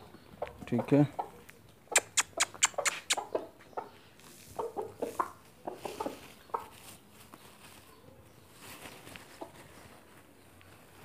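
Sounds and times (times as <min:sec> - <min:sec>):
chickens clucking: 0:00.0 - 0:11.0
chickens pecking on concrete: 0:00.0 - 0:11.0.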